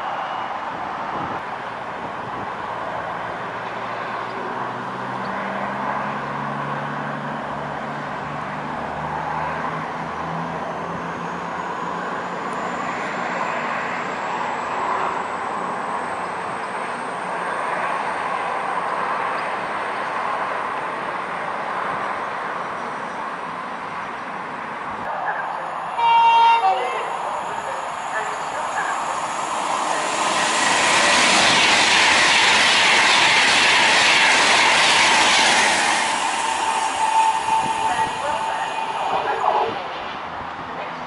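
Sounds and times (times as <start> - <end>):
diesel train engines: 0.0 - 41.0
train running noise: 0.0 - 41.0.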